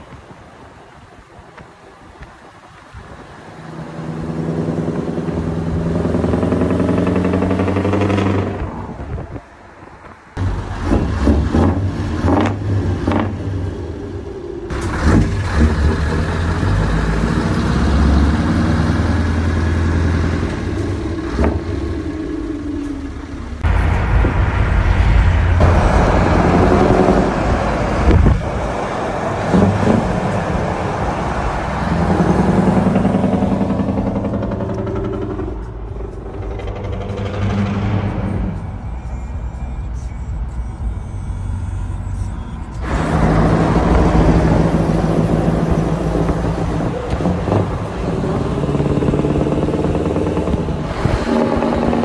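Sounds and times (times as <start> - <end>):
road and tyre noise: 0.0 - 52.0
truck engine accelerating: 3.3 - 52.0.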